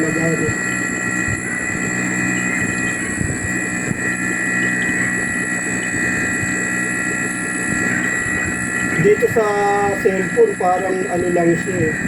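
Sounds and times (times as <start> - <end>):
compressor whine and hum: 0.0 - 12.0.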